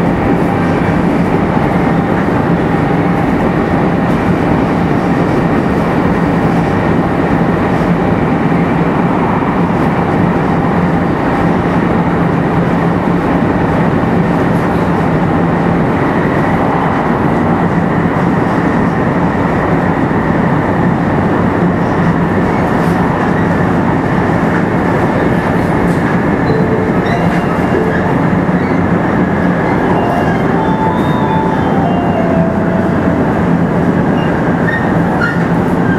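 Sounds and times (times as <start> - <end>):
rumble of train wheels on rail: 0.0 - 35.9.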